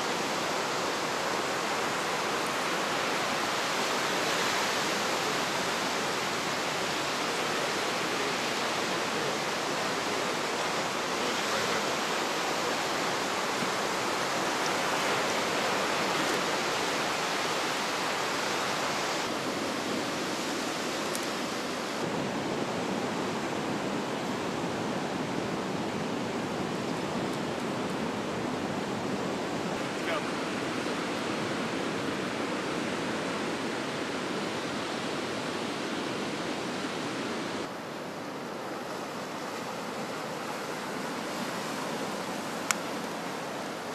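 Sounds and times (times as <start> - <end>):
surf breaking on shore: 0.0 - 43.9.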